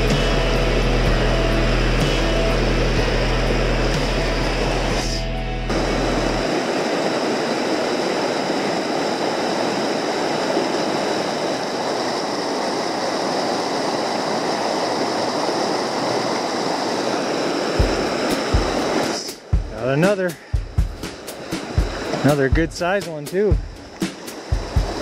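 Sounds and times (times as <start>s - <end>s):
creek rushing over rocks: 0.0s - 25.0s.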